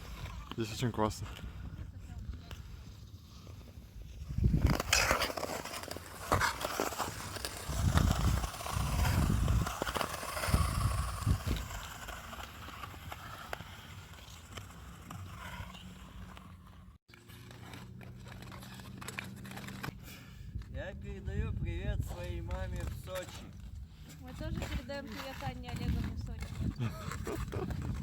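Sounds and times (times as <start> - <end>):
ice skates scraping on ice: 0.0 - 20.8, 21.9 - 28.0.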